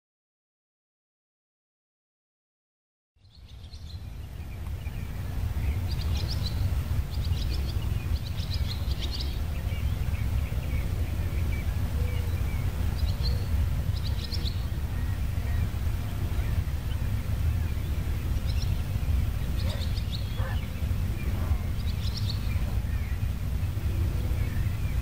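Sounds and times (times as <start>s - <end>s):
birds chirping: 3.2s - 25.0s
steady low rumble: 3.2s - 25.0s.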